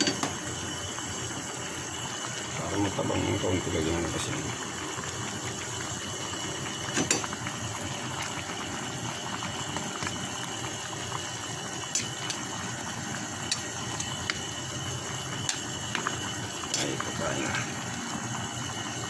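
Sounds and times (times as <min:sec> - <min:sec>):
broth bubbling in pot: 0:00.0 - 0:19.0.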